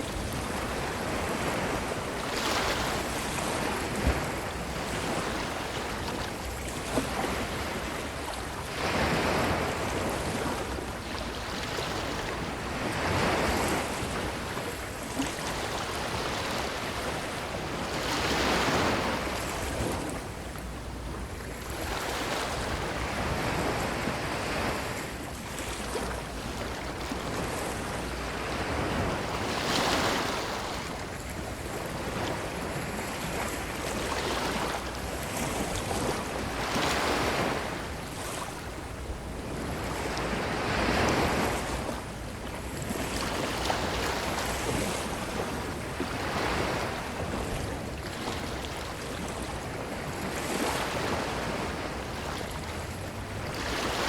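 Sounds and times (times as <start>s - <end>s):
ocean waves washing on beach: 0.0s - 54.0s.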